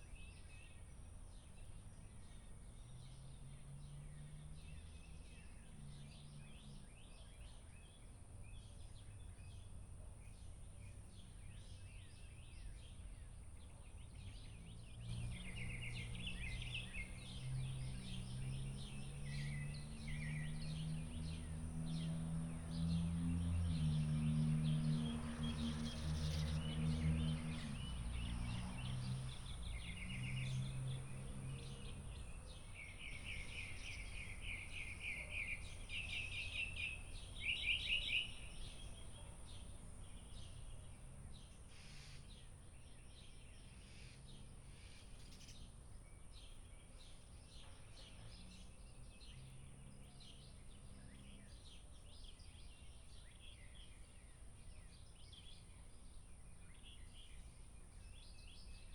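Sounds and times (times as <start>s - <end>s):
wild birds chirping: 0.0s - 58.9s.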